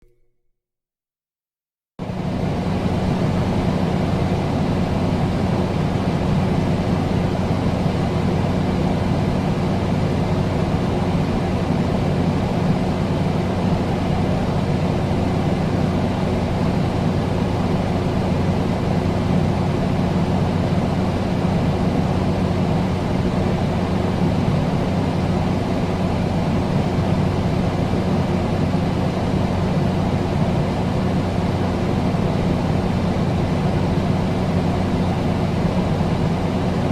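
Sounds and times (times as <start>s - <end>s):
air conditioner fan rush: 2.0s - 36.9s
low electrical hum: 2.0s - 36.9s.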